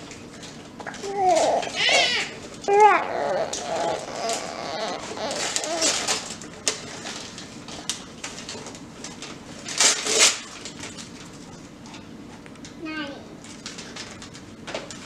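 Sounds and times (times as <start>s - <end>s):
paper rustling and crinkling: 0.3s - 11.6s, 13.4s - 15.0s.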